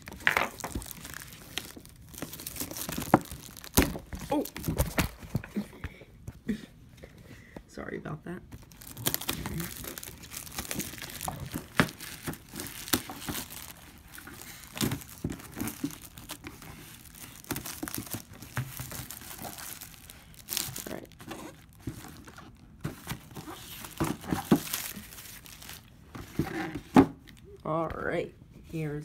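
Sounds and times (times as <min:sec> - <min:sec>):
plastic shrink wrap crinkling: 0:00.0 - 0:05.7, 0:08.5 - 0:27.7.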